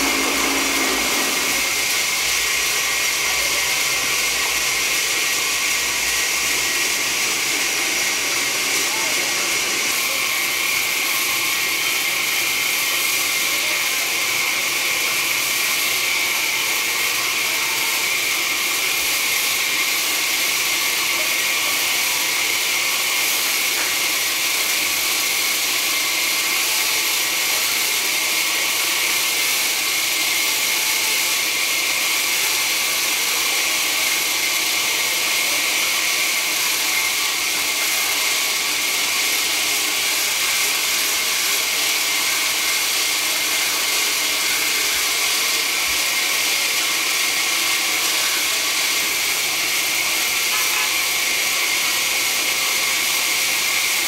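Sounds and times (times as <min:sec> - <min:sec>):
band saw cutting log: 0:00.0 - 0:13.2, 0:14.8 - 0:54.0.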